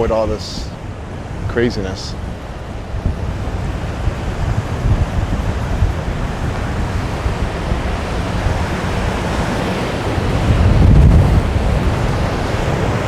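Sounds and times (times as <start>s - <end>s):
wind buffeting microphone: 0.0s - 13.0s
surf breaking: 1.6s - 13.0s.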